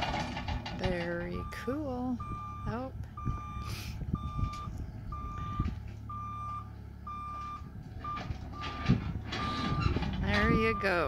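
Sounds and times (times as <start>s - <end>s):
diesel engine running: 0.0s - 11.0s
excavator travel alarm beeping: 0.1s - 11.0s.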